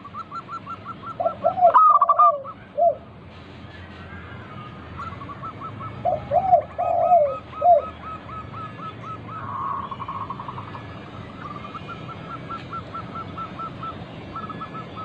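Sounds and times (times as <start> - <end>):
doves cooing: 0.0 - 3.1, 3.8 - 15.0.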